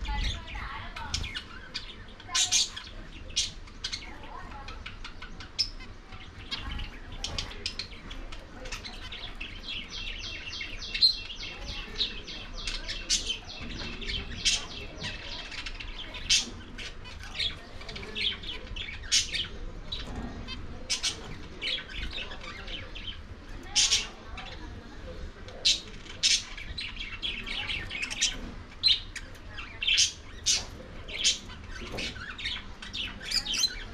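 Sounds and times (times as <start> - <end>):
budgerigars chirping: 0.1 - 24.6, 25.5 - 33.9.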